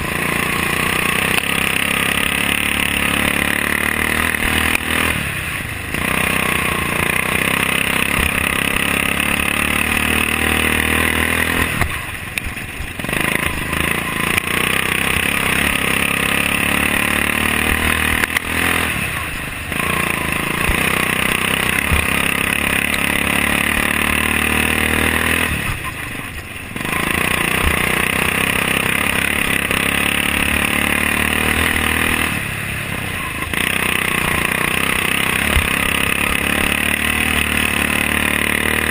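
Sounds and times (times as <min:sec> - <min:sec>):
lawn tractor engine revving: 0:00.0 - 0:38.9.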